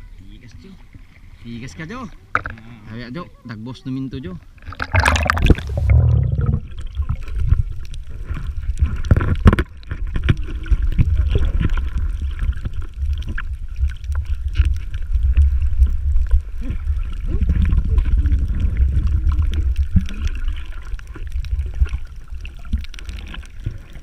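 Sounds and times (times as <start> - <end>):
small underwater clicks: 2.2 - 2.8, 4.5 - 24.0
underwater water rumble: 4.4 - 24.0
water splash: 4.6 - 24.0.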